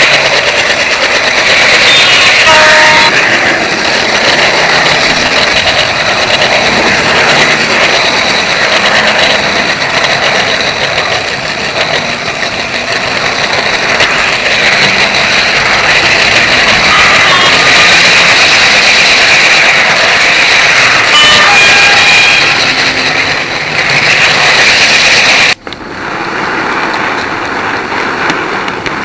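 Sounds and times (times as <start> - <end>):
model train motor whirring: 0.0 - 29.0.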